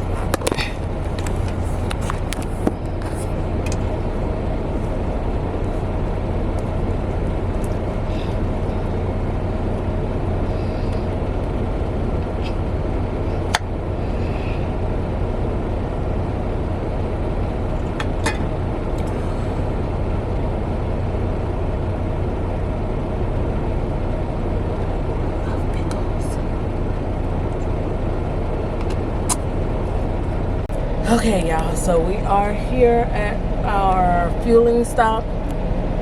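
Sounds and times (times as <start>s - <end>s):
truck engine hum: 0.0s - 36.0s.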